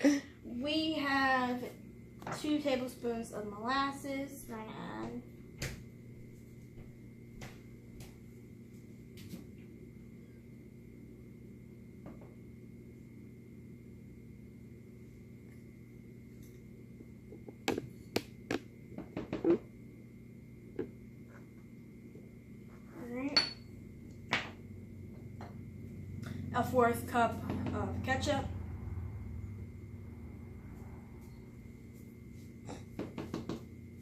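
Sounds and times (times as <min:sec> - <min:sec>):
background hum with high whine: 0:00.0 - 0:34.0.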